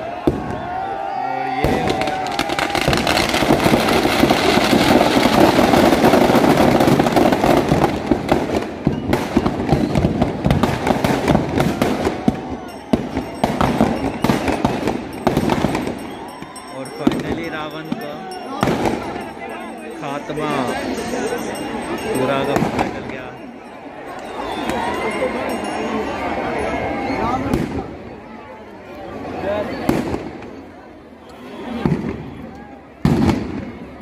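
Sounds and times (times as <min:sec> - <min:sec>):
firecrackers crackling and banging: 0:00.1 - 0:00.9, 0:01.6 - 0:26.0, 0:27.4 - 0:28.2, 0:29.7 - 0:30.8, 0:31.6 - 0:34.0.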